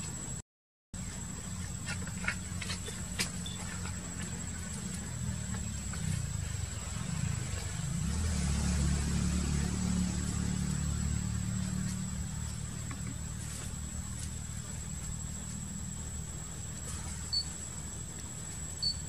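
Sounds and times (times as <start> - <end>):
vehicle engine rumble: 1.0 - 19.0.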